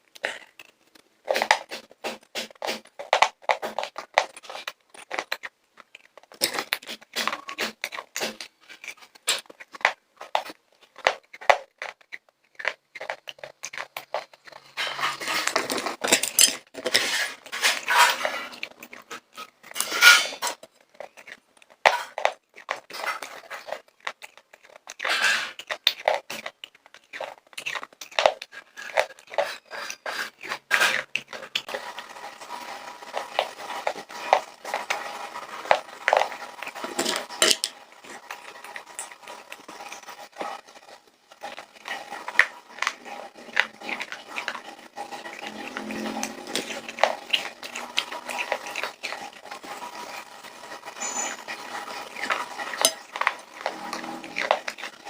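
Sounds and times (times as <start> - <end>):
popcorn crunching: 0.0 - 55.0
popcorn rattling in hard bowl: 6.2 - 55.0.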